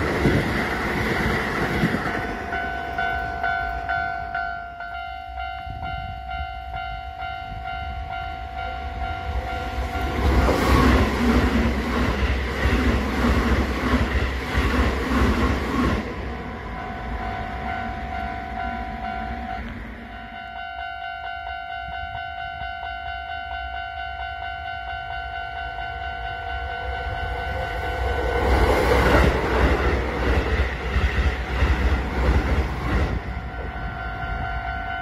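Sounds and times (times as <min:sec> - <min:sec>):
train rumbling past: 0:00.0 - 0:35.0
level crossing warning bell: 0:01.2 - 0:12.3, 0:16.0 - 0:35.0.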